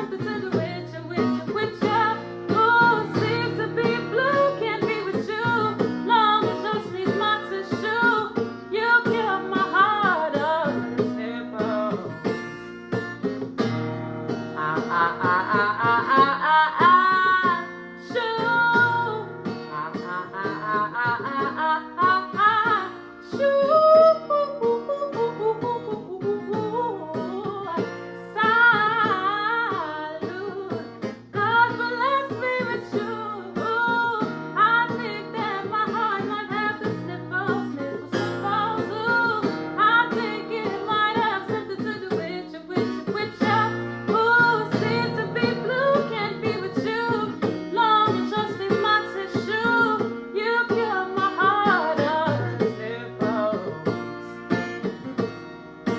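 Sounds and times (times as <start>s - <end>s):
person singing: 0.0s - 12.8s, 14.4s - 54.6s
guitar accompaniment: 0.0s - 55.9s.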